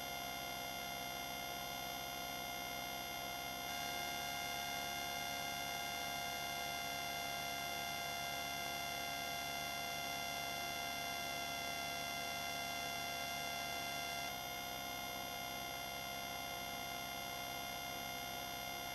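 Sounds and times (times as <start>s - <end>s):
electrical hum with buzz: 0.0s - 18.9s.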